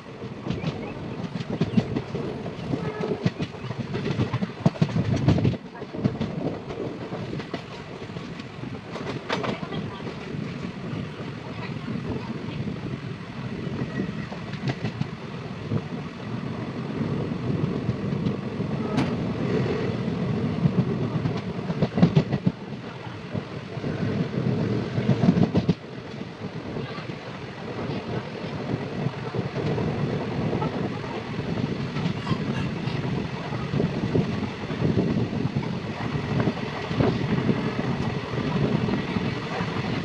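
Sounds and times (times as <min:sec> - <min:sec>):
train wheels clattering on rails: 0:00.0 - 0:12.6, 0:13.8 - 0:16.0, 0:17.6 - 0:40.0.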